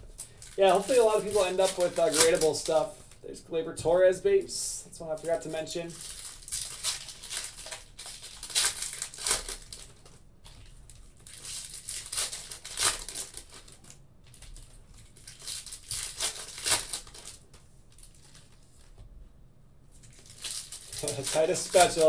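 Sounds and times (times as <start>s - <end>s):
foil wrappers crinkling and tearing: 0.1s - 3.2s, 5.1s - 18.9s, 20.0s - 22.0s.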